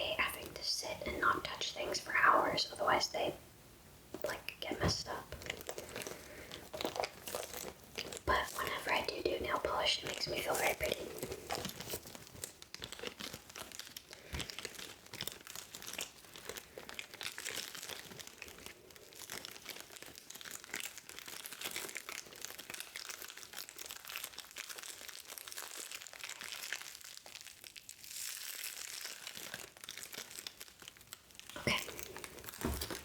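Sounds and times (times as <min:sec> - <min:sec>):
plastic wrap crinkling: 0:04.2 - 0:33.0.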